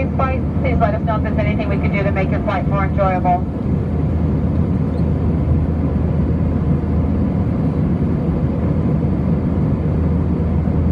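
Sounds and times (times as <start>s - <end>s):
airliner cabin rumble: 0.0s - 10.9s.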